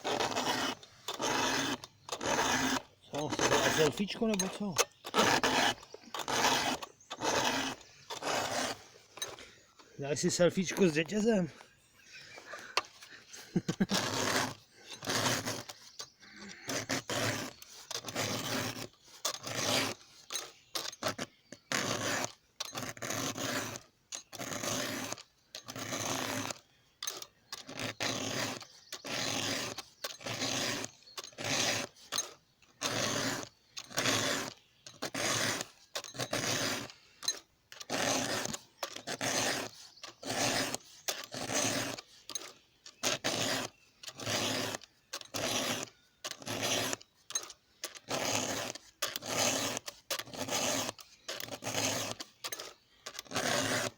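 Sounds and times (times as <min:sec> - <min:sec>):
file rasping on chain: 0:00.0 - 0:11.6, 0:12.3 - 0:53.9.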